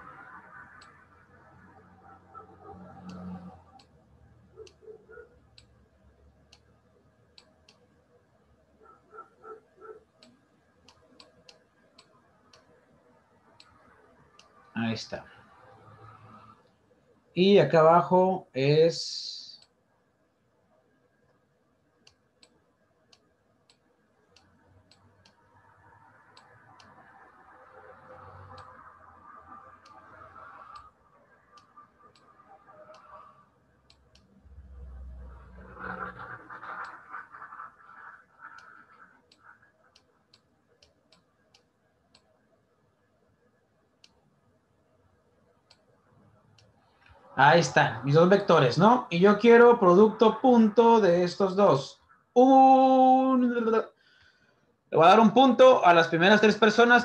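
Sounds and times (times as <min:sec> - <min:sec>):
faint low background noise: 0:00.0 - 0:57.0.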